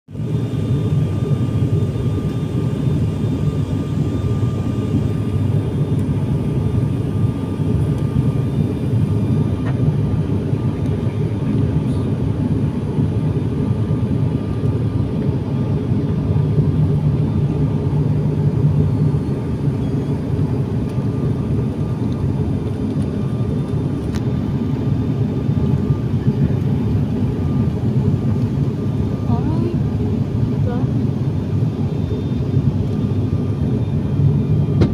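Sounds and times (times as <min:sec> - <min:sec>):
airliner engines and airflow drone: 0:00.1 - 0:34.9.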